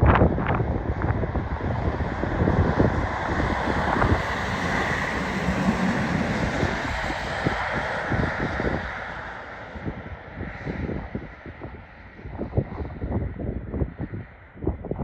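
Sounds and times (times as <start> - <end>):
wind buffeting microphone: 0.0 - 15.0
vehicle engine and tyre noise: 0.1 - 12.2.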